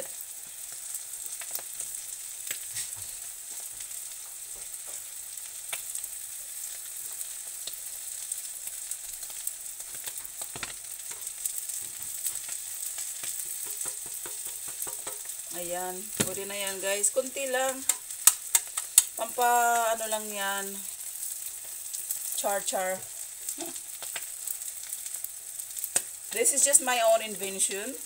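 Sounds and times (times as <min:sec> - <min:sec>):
omelette sizzling in oil: 0:00.0 - 0:28.0.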